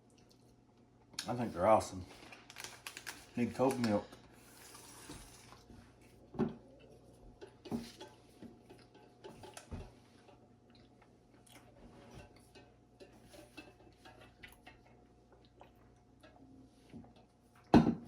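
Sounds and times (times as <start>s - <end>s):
quiet chewing: 0.0s - 1.3s, 2.1s - 17.7s.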